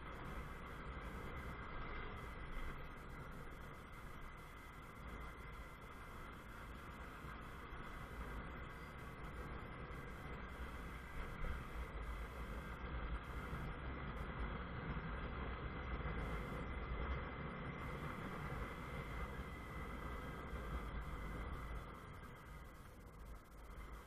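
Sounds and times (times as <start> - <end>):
low wind rumble: 0.0 - 24.0
motorcycle road noise: 0.0 - 24.0.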